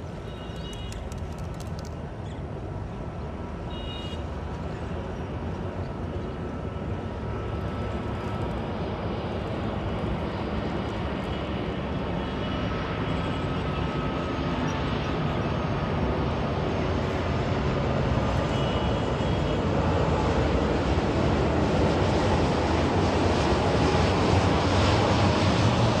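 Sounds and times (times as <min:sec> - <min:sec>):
jet engine rumble: 0:04.3 - 0:26.0.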